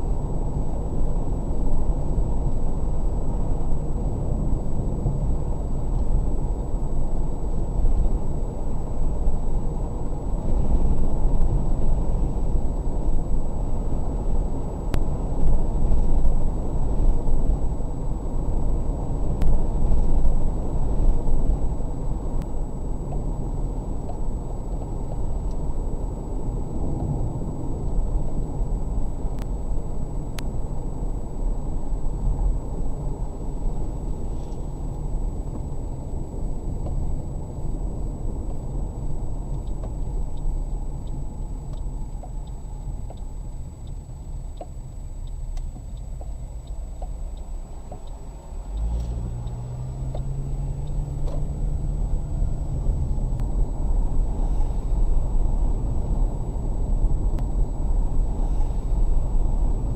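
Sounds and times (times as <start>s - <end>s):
road and engine rumble: 0.0s - 59.9s.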